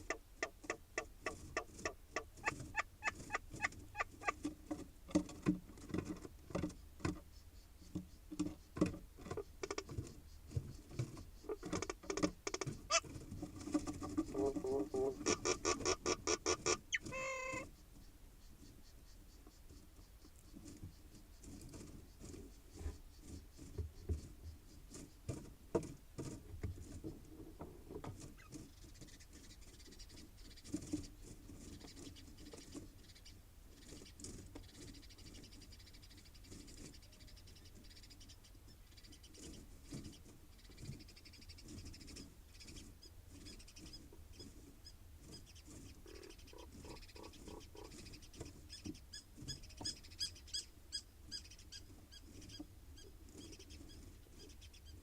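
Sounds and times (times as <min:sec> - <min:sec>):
birds tapping and scratching in nest box: 0:00.0 - 0:55.0.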